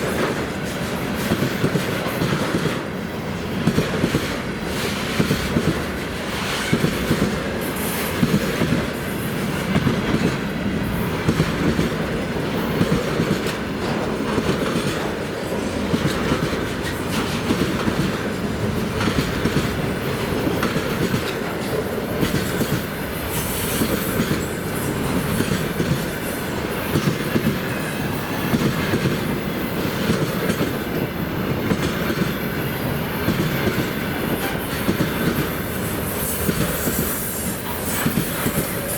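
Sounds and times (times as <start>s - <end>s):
rolling rumble of railway cars: 0.0s - 38.9s
train wheels clacking over rail joints: 0.0s - 38.9s.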